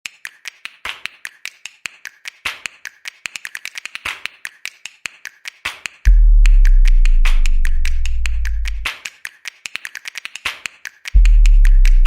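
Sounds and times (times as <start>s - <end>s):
percussive music clicks and hits: 0.0s - 12.0s.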